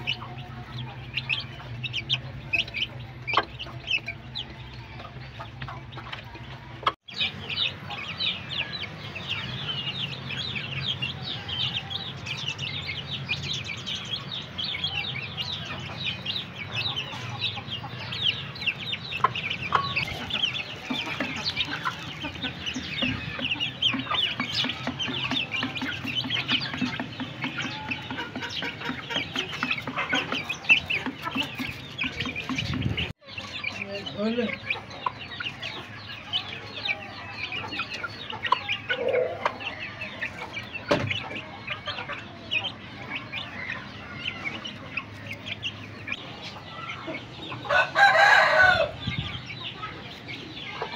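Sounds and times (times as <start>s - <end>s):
chicks peeping: 0.0s - 50.9s
hen clucking: 0.0s - 50.9s.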